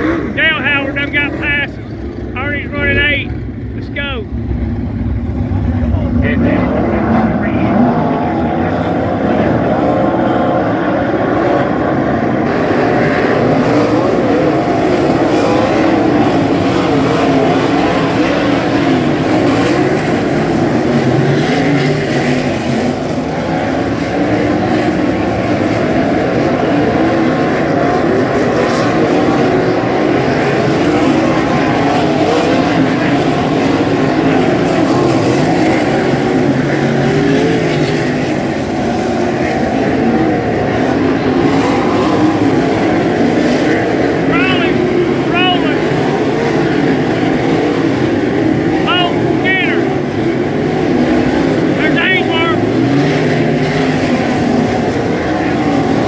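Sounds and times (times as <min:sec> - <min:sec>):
race car engines at full throttle: 0:00.0 - 0:56.0.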